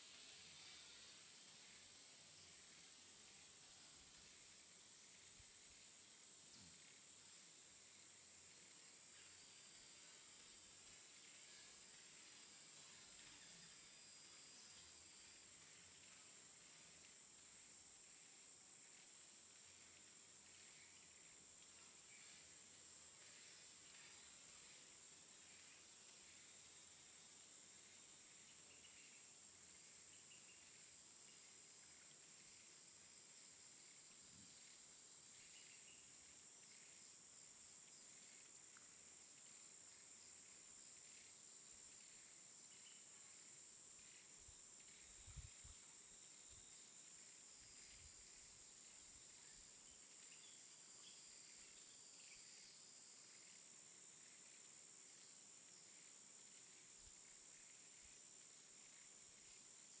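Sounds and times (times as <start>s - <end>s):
faint chirps: 0.0s - 60.0s
faint high-pitched hiss: 0.0s - 60.0s.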